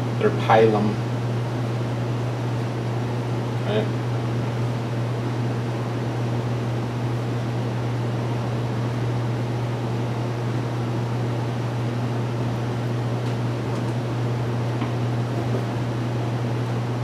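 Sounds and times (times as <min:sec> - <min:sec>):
fan humming with air rush: 0:00.0 - 0:17.0.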